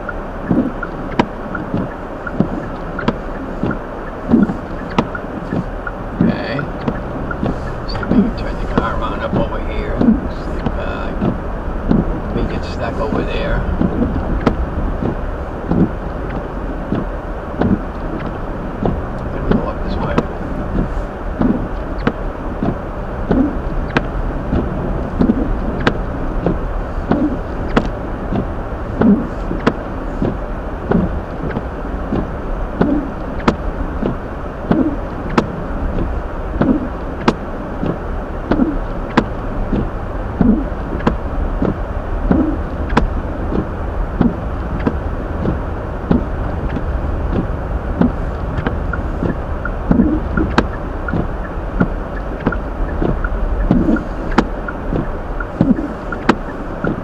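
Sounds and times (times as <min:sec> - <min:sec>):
road and tyre noise in car: 0:00.0 - 0:57.0
light ticks: 0:00.1 - 0:57.0.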